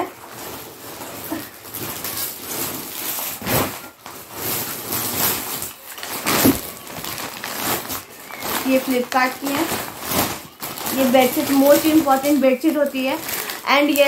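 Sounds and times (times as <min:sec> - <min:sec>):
packet rustling and crinkling: 0:00.0 - 0:14.0.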